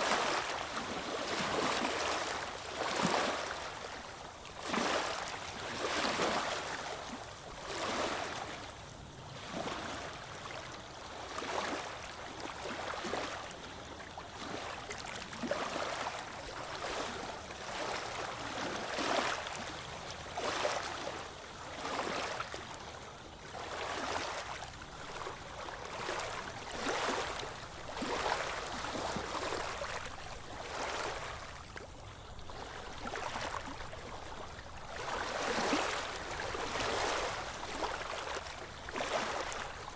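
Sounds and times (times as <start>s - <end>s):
small waves lapping on beach: 0.0s - 39.9s.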